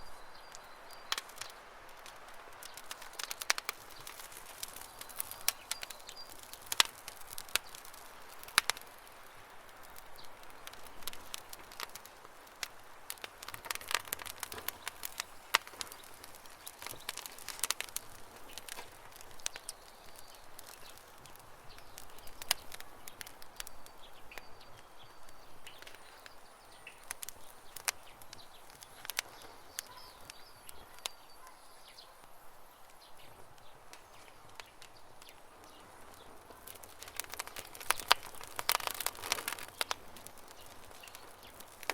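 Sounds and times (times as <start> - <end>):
birds chirping faintly: 0.0 - 41.9
campfire crackling: 0.0 - 41.9.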